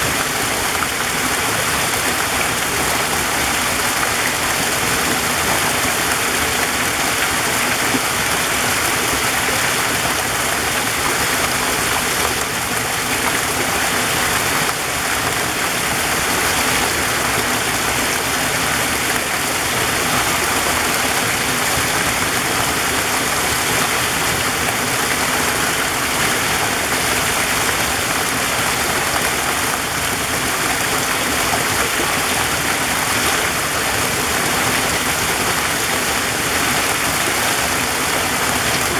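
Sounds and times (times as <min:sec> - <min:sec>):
waterfall flowing: 0:00.0 - 0:38.9.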